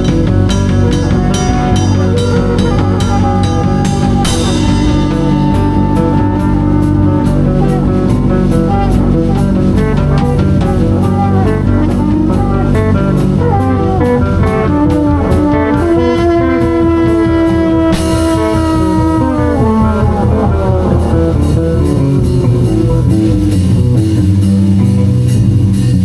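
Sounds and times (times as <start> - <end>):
drum kit beat: 0.0 - 26.0
guitar: 0.0 - 26.0
jazz band playing: 0.0 - 26.0.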